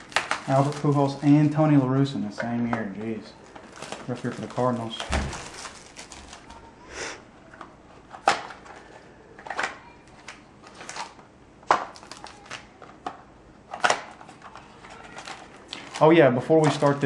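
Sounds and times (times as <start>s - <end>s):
card packs crinkling and tapping: 0.0s - 6.6s, 7.6s - 17.0s.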